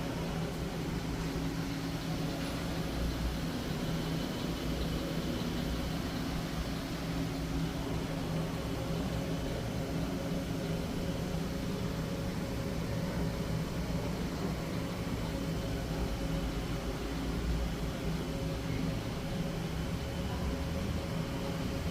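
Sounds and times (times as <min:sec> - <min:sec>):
refrigerator humming: 0:00.0 - 0:21.9.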